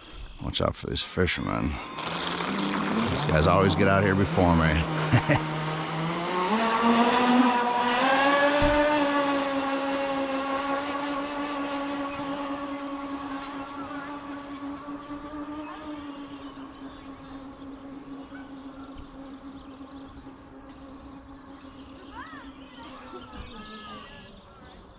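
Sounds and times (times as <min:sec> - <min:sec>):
electric motors whining: 0:01.3 - 0:24.6.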